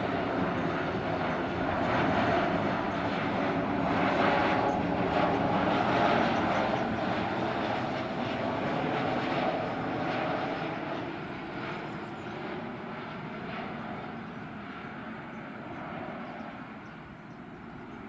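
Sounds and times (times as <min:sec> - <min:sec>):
airliner engines rushing: 0:00.0 - 0:18.0.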